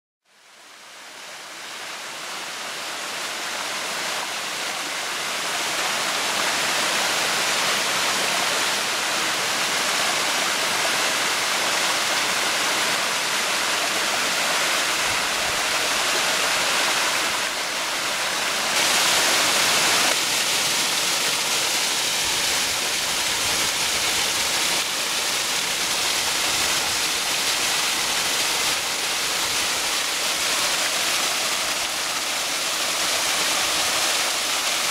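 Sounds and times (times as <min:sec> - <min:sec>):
waterfall rushing and splashing: 0:00.4 - 0:34.9.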